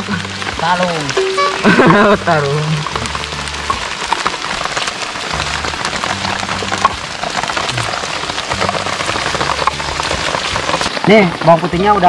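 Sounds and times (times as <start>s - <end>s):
rain pattering on leaves: 0.0s - 12.0s.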